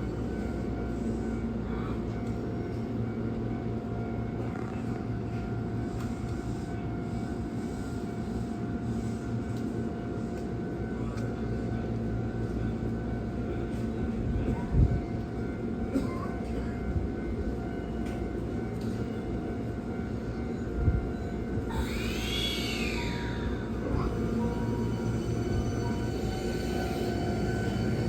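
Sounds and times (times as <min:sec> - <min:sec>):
electric train low rumble: 0:00.0 - 0:28.0.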